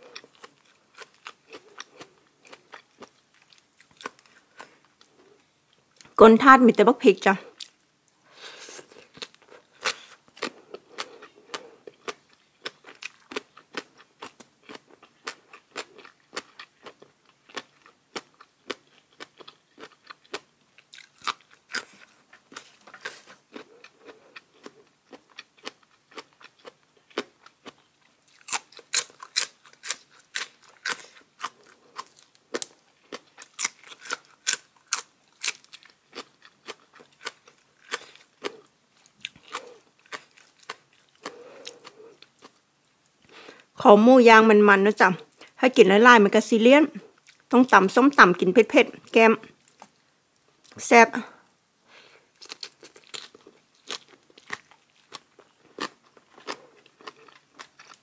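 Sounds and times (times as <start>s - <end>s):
person chewing crunchy food: 0.0s - 6.1s, 8.4s - 43.7s, 47.0s - 47.5s, 51.9s - 58.0s.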